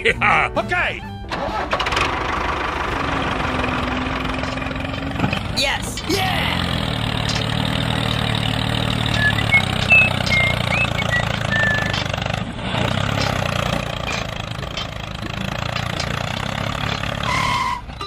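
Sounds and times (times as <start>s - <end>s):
tractor engine humming: 0.0s - 18.0s.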